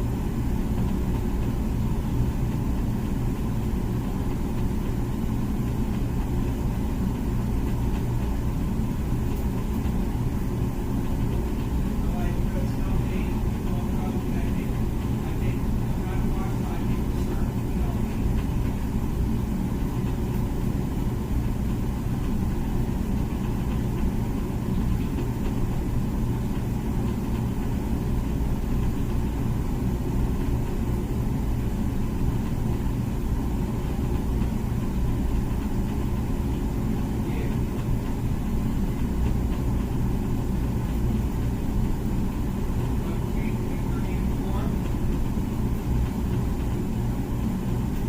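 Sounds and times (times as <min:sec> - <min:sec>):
dishwasher humming: 0:00.0 - 0:48.0.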